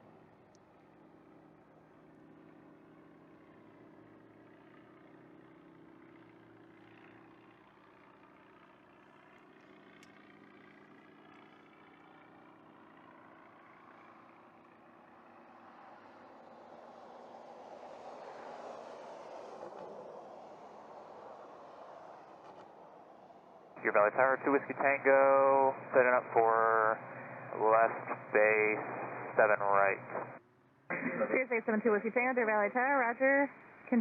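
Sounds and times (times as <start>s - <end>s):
light airplane engine droning: 0.0s - 34.0s.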